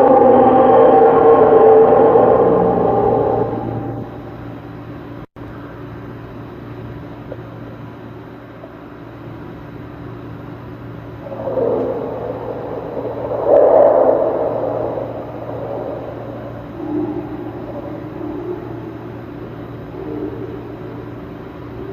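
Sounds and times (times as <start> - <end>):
low steady drone: 0.0 - 5.8, 9.3 - 21.9.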